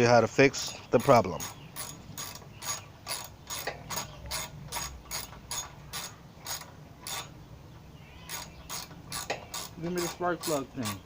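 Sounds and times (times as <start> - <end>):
ratchet wrench clicking: 1.0 - 7.3, 8.3 - 11.0.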